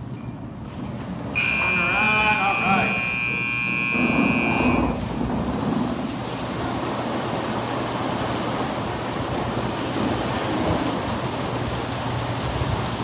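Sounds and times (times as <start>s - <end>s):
car wash equipment rushing: 0.0s - 13.0s.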